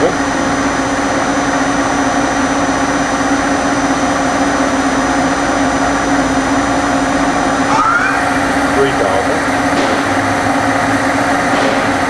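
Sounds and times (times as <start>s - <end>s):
machine spindle humming: 0.0s - 12.0s.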